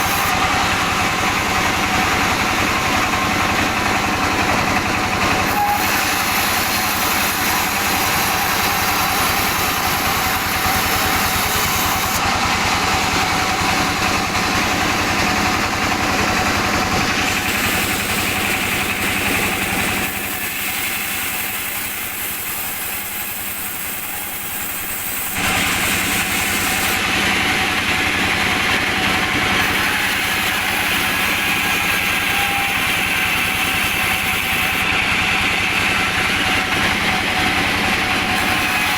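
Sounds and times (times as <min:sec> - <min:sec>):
sawmill machinery hum: 0:00.0 - 0:38.9.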